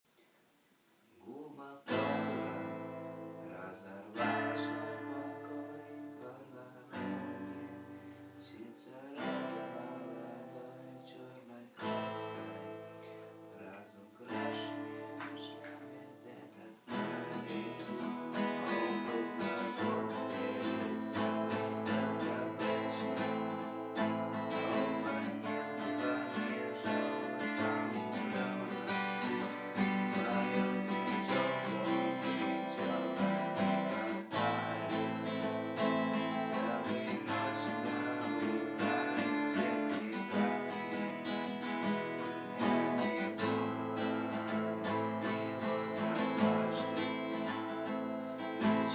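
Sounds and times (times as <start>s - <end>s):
acoustic guitar strumming: 1.9s - 48.9s.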